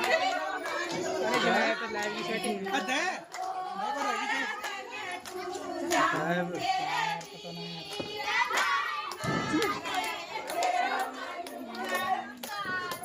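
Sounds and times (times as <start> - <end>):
people talking and calling out: 0.0 - 13.0.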